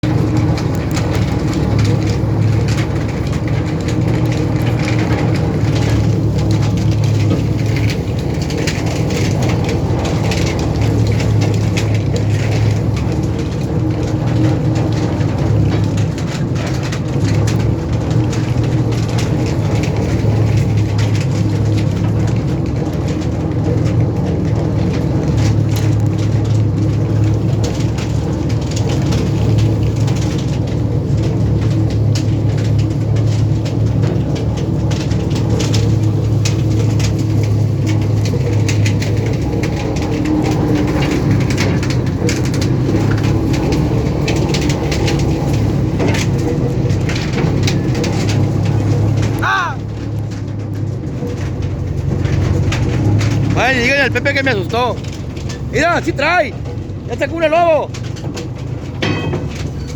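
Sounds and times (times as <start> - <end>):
boat engine humming: 0.0 - 59.9
water splashing against boat: 0.0 - 59.9.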